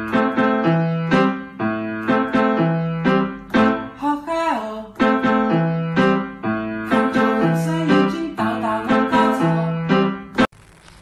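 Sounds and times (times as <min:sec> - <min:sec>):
keyboard melody over bass: 0:00.0 - 0:04.0, 0:04.9 - 0:10.5.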